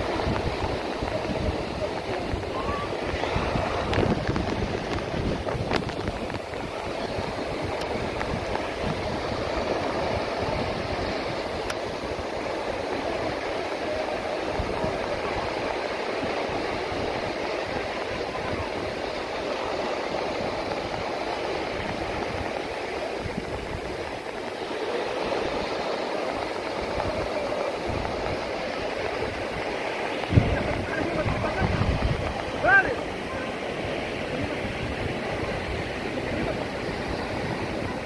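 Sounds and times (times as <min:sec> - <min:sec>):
waves breaking on a beach: 0:00.0 - 0:38.0
wind buffeting microphone: 0:00.0 - 0:38.0.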